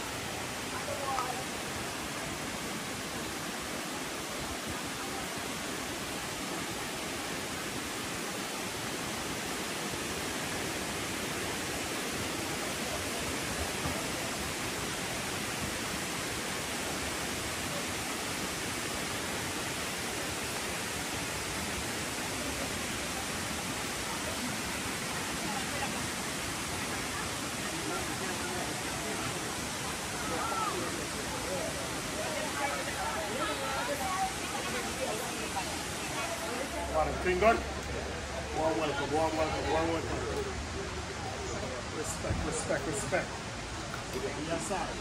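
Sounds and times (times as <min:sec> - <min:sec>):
flowing water rushing: 0:00.0 - 0:45.0.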